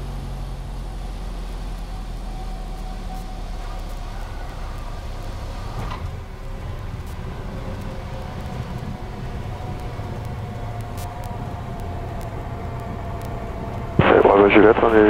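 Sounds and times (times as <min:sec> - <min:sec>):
airplane piston engine and propeller: 0:00.0 - 0:15.0.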